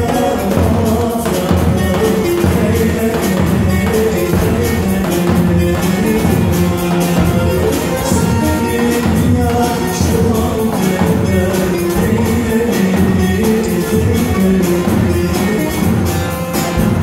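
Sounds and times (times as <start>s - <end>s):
folk music on saz and keyboard: 0.0s - 17.0s
man singing into a microphone: 0.0s - 17.0s.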